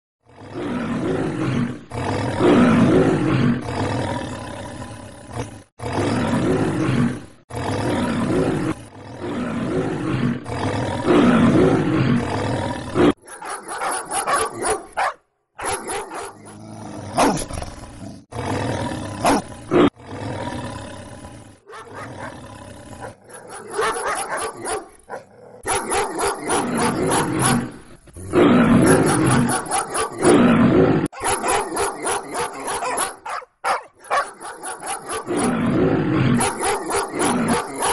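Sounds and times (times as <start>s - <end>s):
lion-like roaring and growling: 0.2s - 14.8s, 15.7s - 37.9s.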